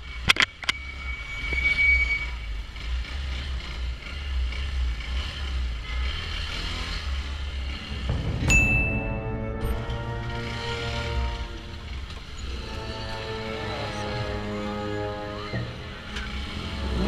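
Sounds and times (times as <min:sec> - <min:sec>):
street noise: 0:00.0 - 0:17.0
motorcycle engine rumble: 0:02.2 - 0:17.0.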